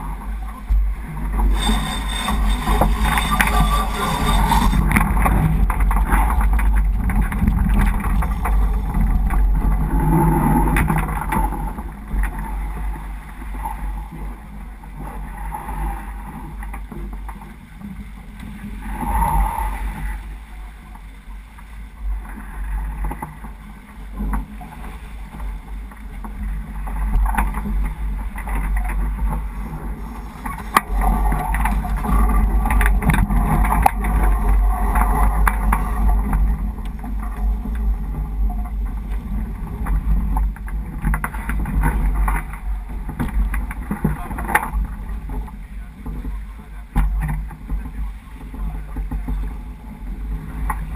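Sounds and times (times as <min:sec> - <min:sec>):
wind buffeting microphone: 0:00.0 - 0:20.3, 0:22.1 - 0:50.9
water rushing along hull: 0:00.0 - 0:50.9.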